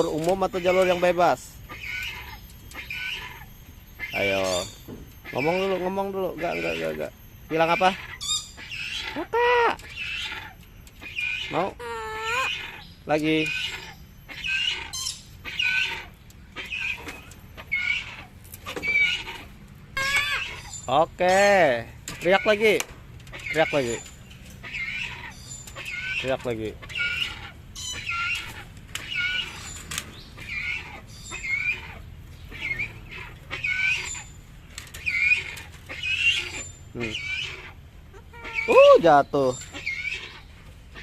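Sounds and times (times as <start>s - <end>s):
cockatoo screeching: 0.0s - 41.0s.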